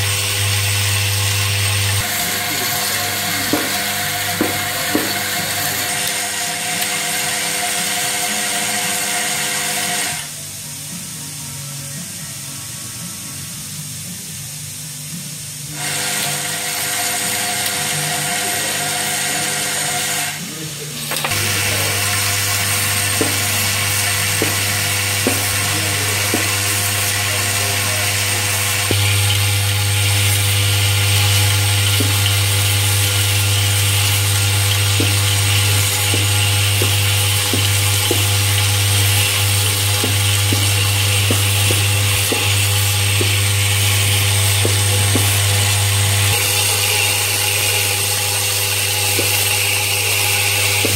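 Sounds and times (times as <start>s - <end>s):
vibratory feeder humming: 0.0s - 50.9s.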